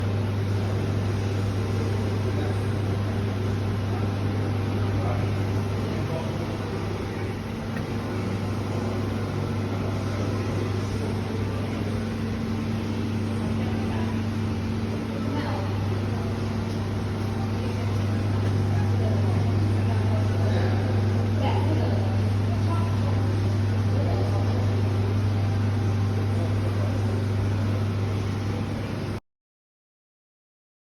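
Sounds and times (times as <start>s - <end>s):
fan noise: 0.0s - 29.2s
refrigeration equipment humming: 0.0s - 29.2s.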